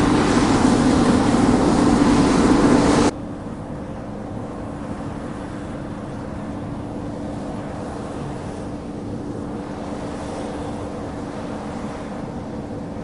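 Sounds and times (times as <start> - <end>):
combine harvester humming: 0.0 - 13.0.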